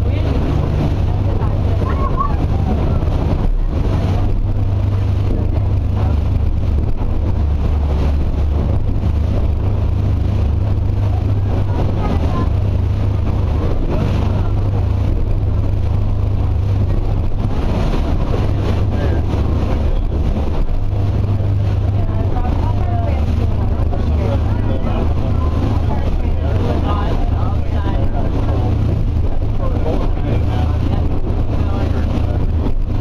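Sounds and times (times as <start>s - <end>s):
boat engine droning: 0.0s - 33.0s
rushing water noise: 0.0s - 33.0s.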